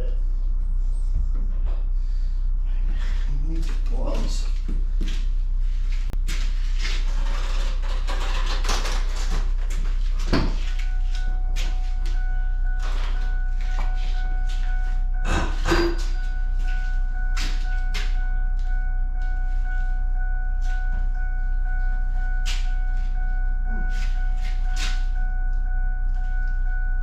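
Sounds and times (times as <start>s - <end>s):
mechanical hum with high whine: 0.0s - 27.0s.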